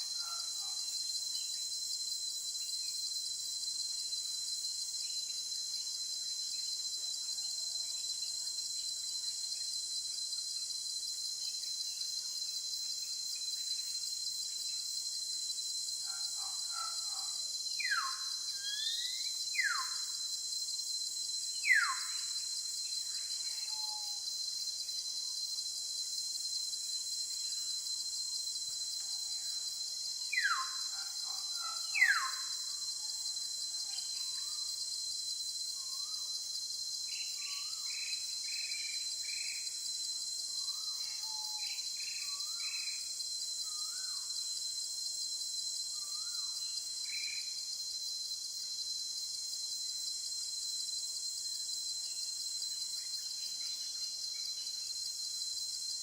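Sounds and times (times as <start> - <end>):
shrill insect chorus: 0.0 - 56.0.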